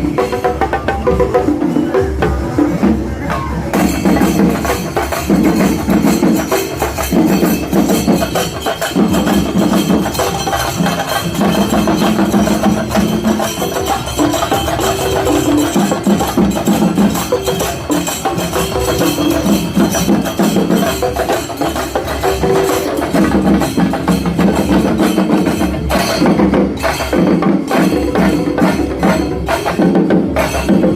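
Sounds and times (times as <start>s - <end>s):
drum ensemble rolls: 0.0s - 30.9s.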